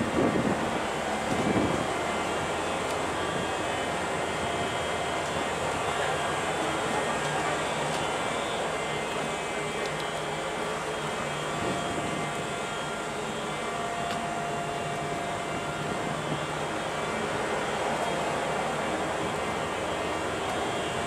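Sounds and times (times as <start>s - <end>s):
ship machinery and fans droning: 0.0s - 21.0s.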